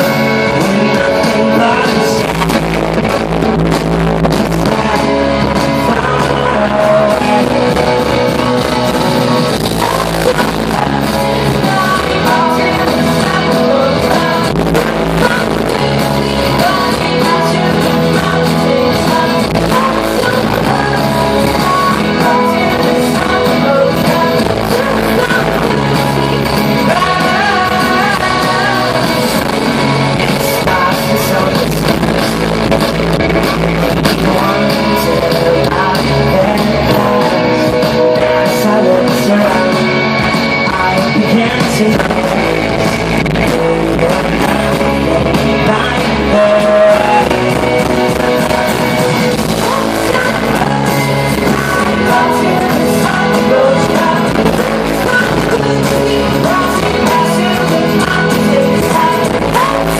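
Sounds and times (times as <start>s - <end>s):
person singing: 0.0s - 59.9s
rock band playing live: 0.0s - 59.9s.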